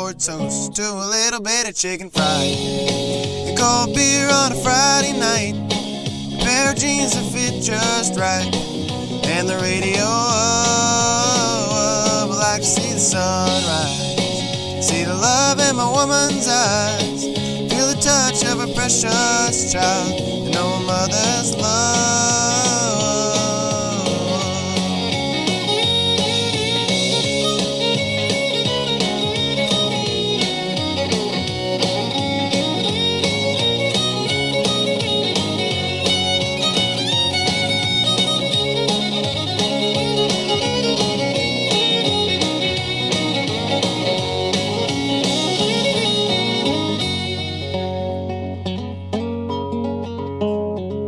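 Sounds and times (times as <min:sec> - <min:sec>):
country band playing: 0:00.0 - 0:51.0
strummed guitar: 0:00.0 - 0:51.0
fiddle playing lead: 0:02.2 - 0:48.8.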